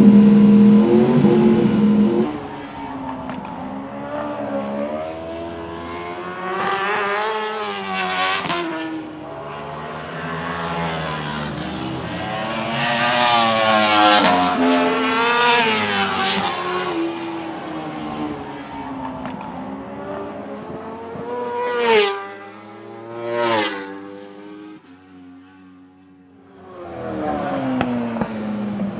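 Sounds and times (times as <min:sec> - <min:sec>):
racing motorcycles at high revs: 0:00.0 - 0:02.4, 0:03.1 - 0:25.7, 0:26.7 - 0:28.9.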